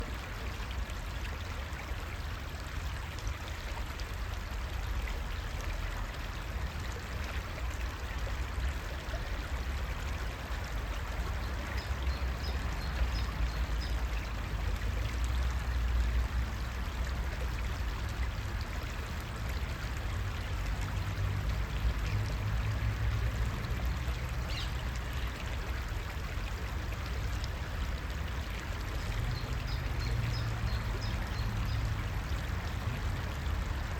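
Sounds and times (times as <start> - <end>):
creek water flowing: 0.0 - 33.9.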